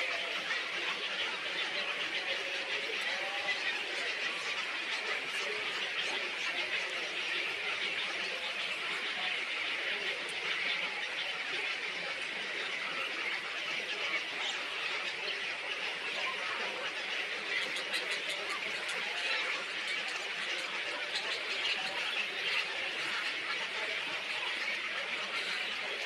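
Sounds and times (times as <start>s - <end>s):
small birds chattering: 0.0s - 26.0s.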